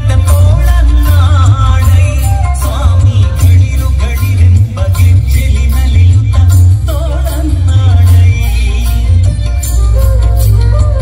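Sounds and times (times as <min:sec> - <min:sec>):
heavy bass beat: 0:00.0 - 0:11.0
person singing: 0:00.0 - 0:11.0.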